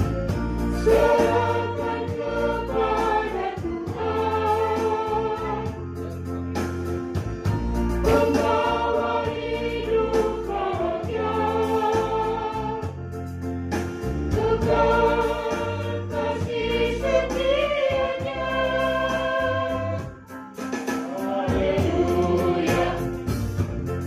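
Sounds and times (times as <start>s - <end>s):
mixed choir singing a hymn: 0.2s - 6.2s, 8.0s - 13.1s, 14.2s - 23.6s.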